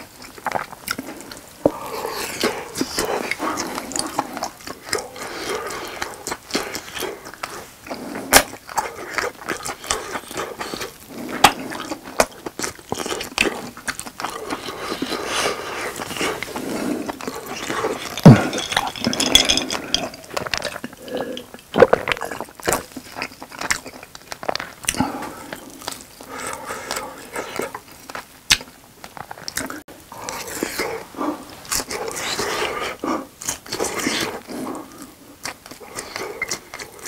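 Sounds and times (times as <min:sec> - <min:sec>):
chewing with wet mouth clicks: 0:00.0 - 0:31.0, 0:31.6 - 0:37.0.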